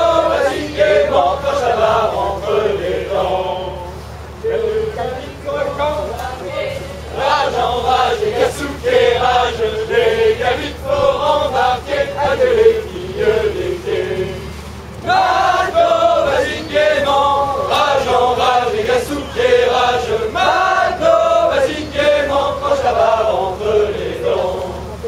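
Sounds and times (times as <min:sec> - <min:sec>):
group singing sea song in unison: 0:00.0 - 0:25.0.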